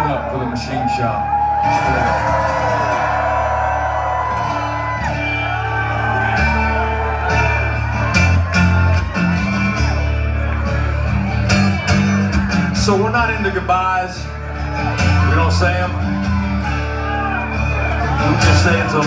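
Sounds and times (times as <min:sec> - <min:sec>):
audience cheering and whooping: 0:00.0 - 0:12.8, 0:14.2 - 0:19.0.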